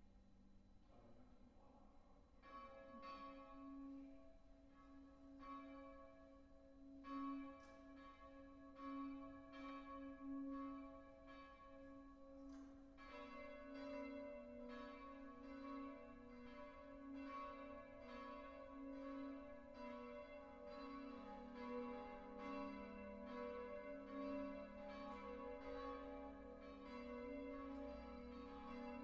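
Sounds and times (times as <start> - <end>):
faint church bells ringing: 2.4 - 29.0.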